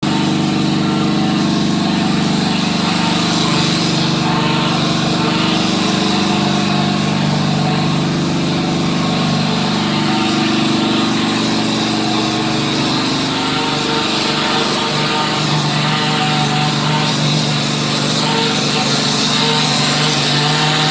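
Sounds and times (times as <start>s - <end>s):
plaster spraying machine running: 0.0s - 20.9s.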